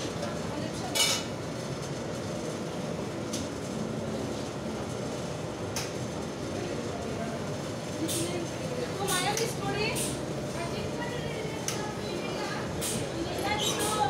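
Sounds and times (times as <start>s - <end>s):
restaurant kitchen hum: 0.0s - 14.0s.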